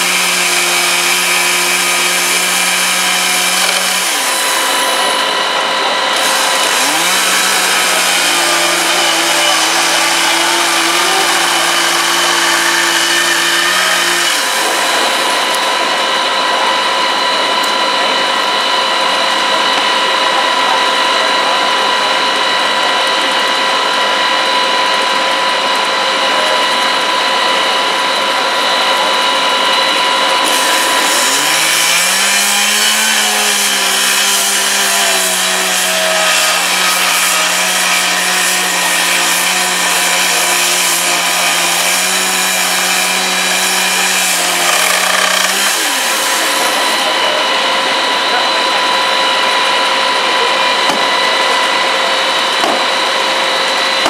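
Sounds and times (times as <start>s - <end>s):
motor revving under load: 0.0s - 19.0s, 20.8s - 54.0s
rescue equipment mechanical whine: 1.0s - 54.0s.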